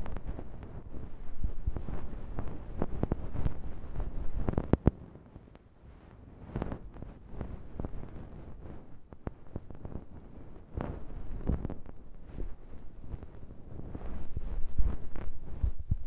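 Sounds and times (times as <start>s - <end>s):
soft rustling swishes on microphone: 0.0s - 5.1s, 5.9s - 16.0s.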